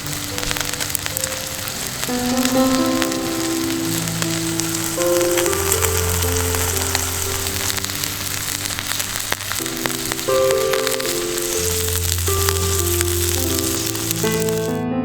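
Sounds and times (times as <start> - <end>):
fire popping and crackling: 0.0 - 14.7
steak sizzling over wood fire: 0.0 - 14.7
background music: 0.0 - 15.0.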